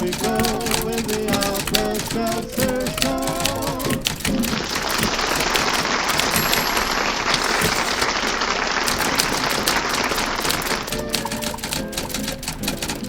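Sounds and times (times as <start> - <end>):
audience applauding: 0.0 - 13.0
faint typewriter key clacks: 0.0 - 13.0.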